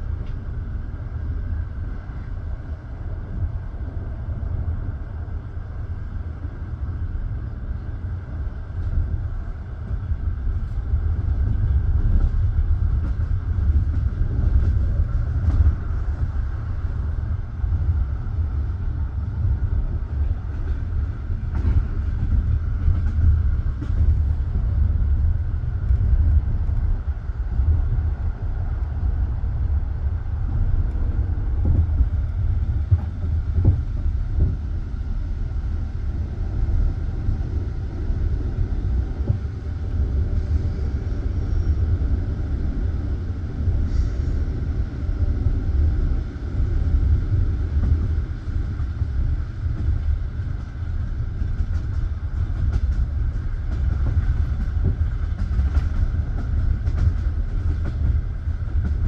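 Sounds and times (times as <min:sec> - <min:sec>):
wheels rumbling on rails: 0:00.0 - 0:59.0.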